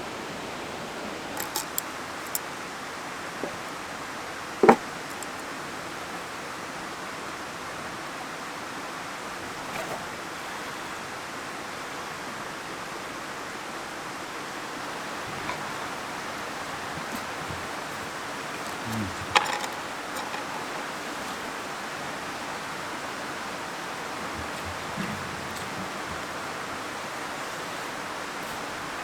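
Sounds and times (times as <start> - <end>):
mountain stream flowing: 0.0 - 29.0.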